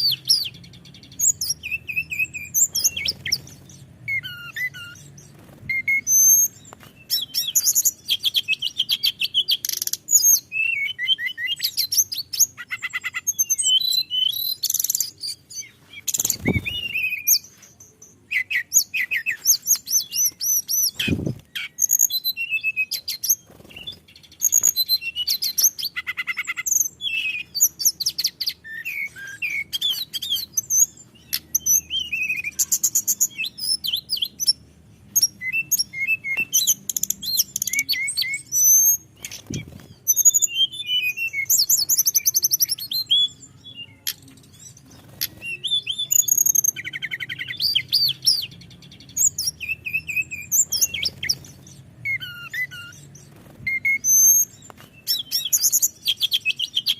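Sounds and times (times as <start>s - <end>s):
bird singing whistles and trills: 0.0s - 56.9s.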